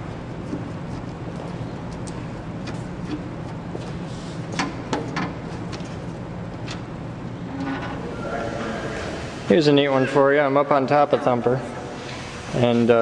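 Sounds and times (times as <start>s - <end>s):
low hum of ventilation: 0.0s - 13.0s.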